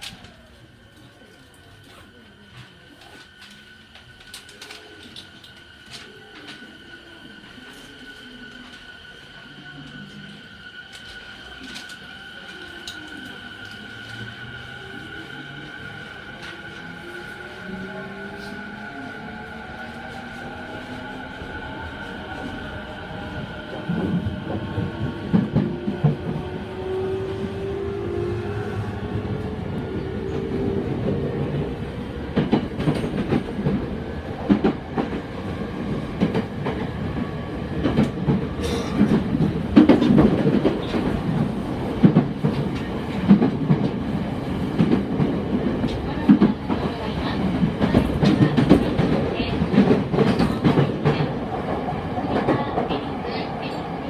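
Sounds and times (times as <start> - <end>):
train rumble: 1.6 - 54.0.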